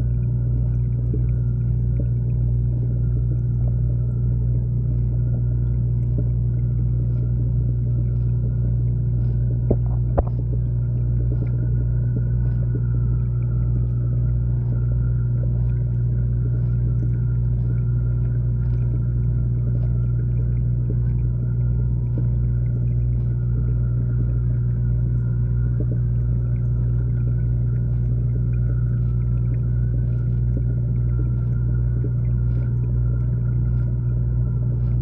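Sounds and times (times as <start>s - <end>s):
low mechanical hum underwater: 0.0s - 35.0s.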